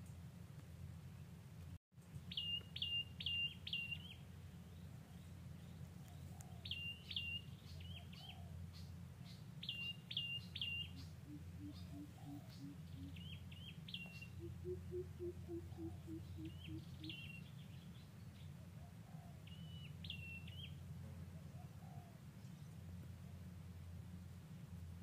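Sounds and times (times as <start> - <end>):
steady low hum: 3.5 - 25.0.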